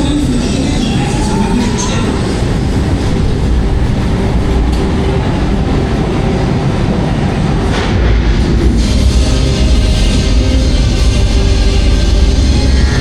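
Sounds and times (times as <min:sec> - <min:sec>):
roller coaster wheels rumbling: 0:00.0 - 0:13.0.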